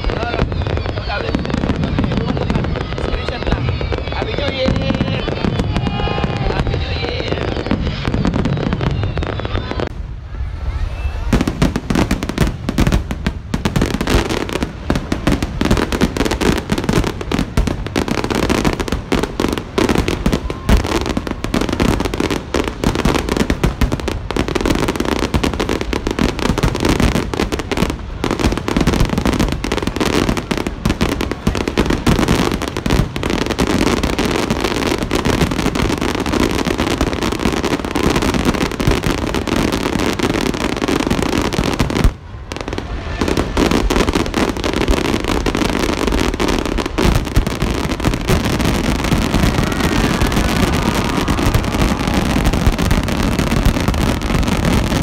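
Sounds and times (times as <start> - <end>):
fireworks bursts and crackling bangs: 0.0 - 55.0.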